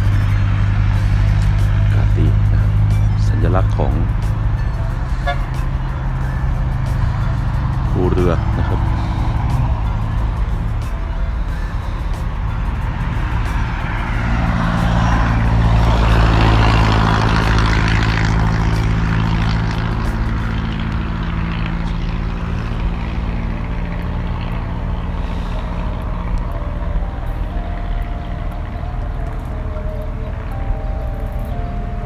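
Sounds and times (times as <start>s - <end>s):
road noise of passing vehicle: 0.0s - 32.0s
vehicle engine droning: 0.0s - 32.0s.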